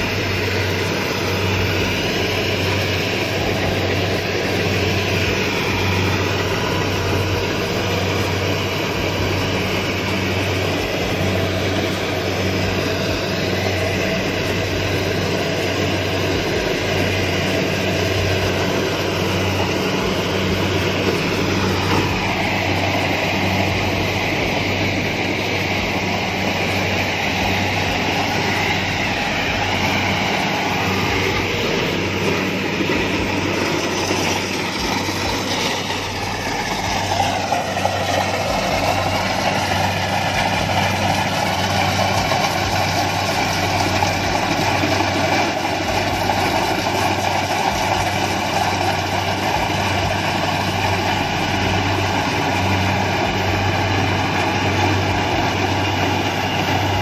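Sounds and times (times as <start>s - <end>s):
combine harvester droning: 0.0s - 57.0s.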